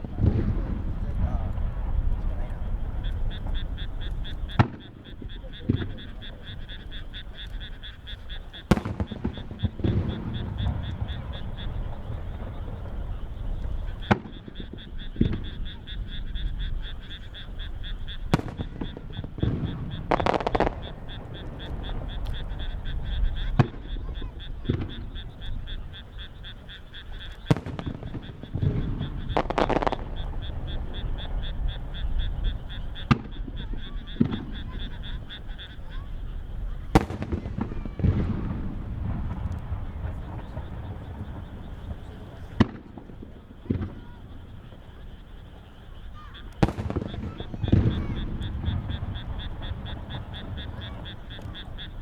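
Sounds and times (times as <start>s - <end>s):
firework bangs: 0.0s - 52.0s
frogs calling in chorus: 0.0s - 52.0s.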